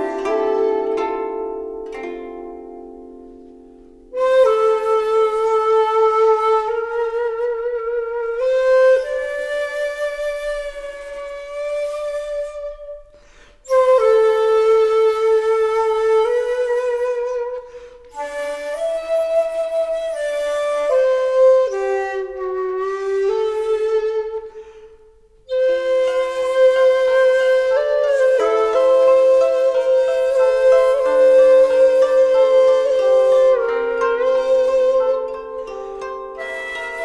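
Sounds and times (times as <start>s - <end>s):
slow melody of long held notes: 0.0s - 37.0s.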